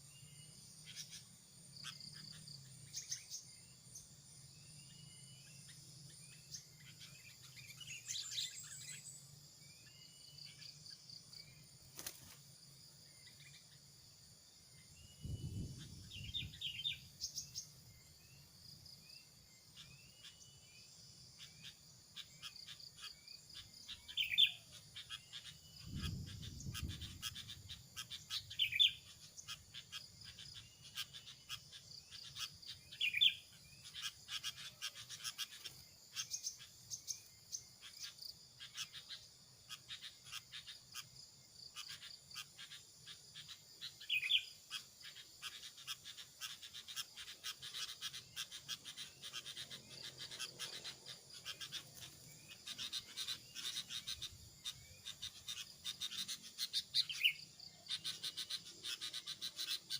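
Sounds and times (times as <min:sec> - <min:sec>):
birds chirping: 0:00.0 - 0:59.9
insects droning: 0:00.0 - 0:59.9.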